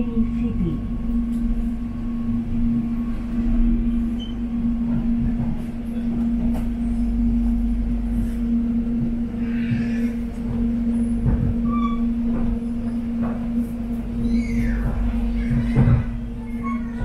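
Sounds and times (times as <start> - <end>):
low rumble: 0.0 - 17.0
steady electrical hum: 0.0 - 17.0.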